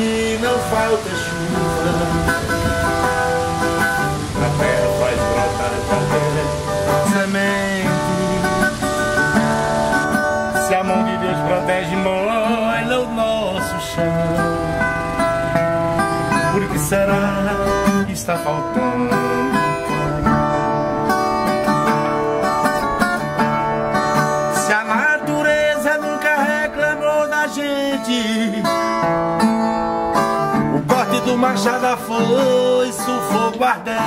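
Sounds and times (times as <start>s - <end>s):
song with plucked acoustic guitar: 0.0s - 34.0s.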